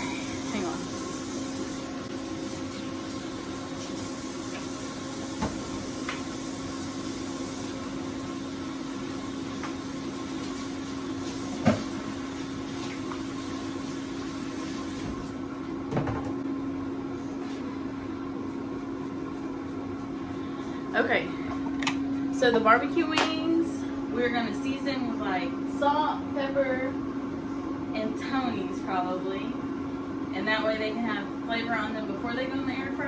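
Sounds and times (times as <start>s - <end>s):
air fryer humming: 0.0s - 33.0s.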